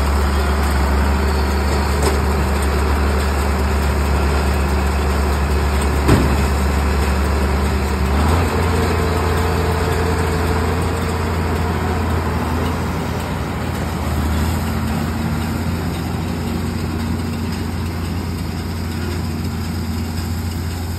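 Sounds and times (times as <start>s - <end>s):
baler drive running: 0.0s - 20.9s
tractor diesel engine running: 0.0s - 20.9s.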